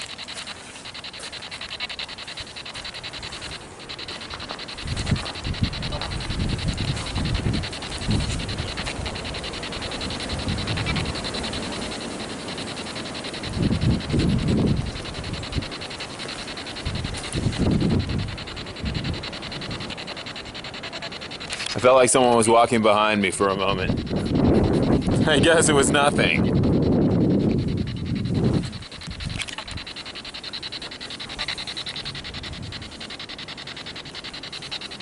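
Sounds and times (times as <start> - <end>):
high-pitched hiss: 0.0 - 35.0.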